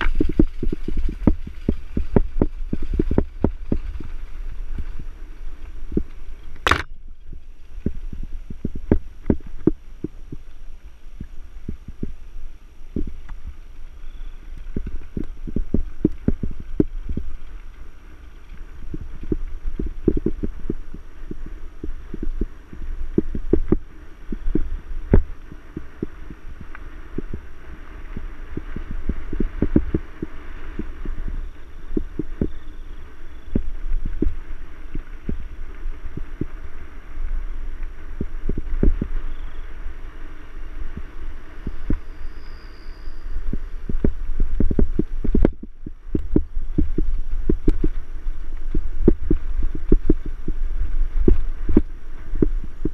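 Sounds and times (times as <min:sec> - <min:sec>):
constant low rumble: 0:00.0 - 0:52.9.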